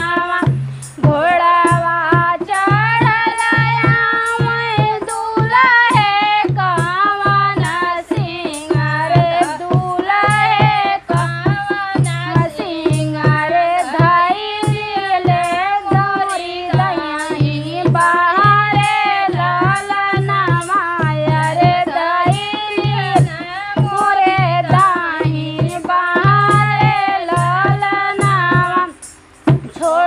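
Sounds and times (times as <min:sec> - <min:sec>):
steady drum beat: 0:00.0 - 0:30.0
women singing folk song: 0:00.0 - 0:30.0.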